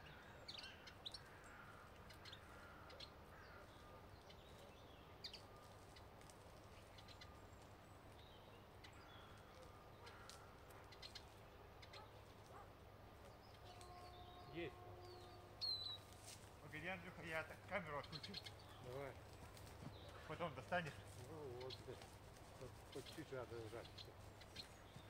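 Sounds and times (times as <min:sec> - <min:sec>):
small songbirds chirping: 0:00.0 - 0:25.0.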